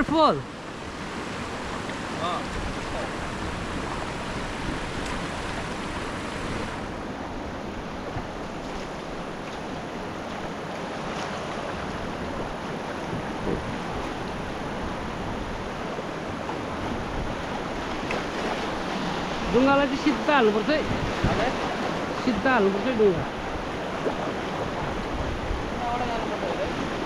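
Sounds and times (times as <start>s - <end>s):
fast-flowing river water: 0.0s - 27.0s.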